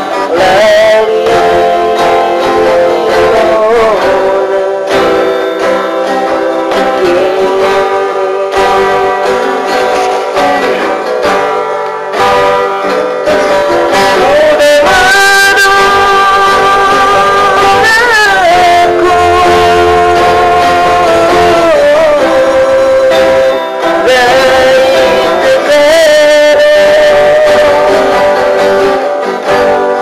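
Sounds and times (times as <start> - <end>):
acoustic guitar: 0.0 - 30.0
person singing long notes: 0.0 - 30.0.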